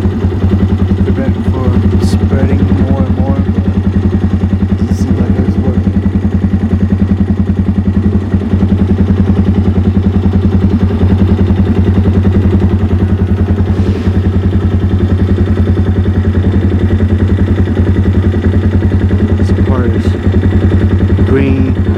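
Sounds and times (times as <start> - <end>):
vehicle engine running: 0.0 - 21.9.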